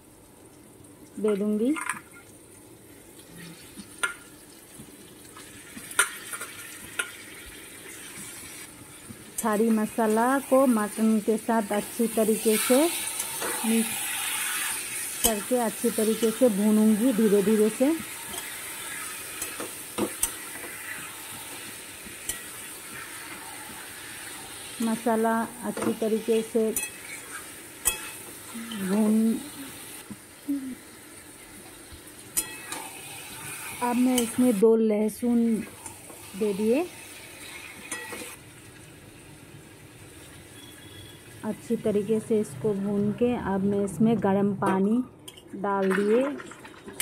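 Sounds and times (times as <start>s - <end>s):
frying hiss: 0.0s - 43.6s
meat sizzling in a pan: 2.2s - 34.7s, 35.3s - 41.8s.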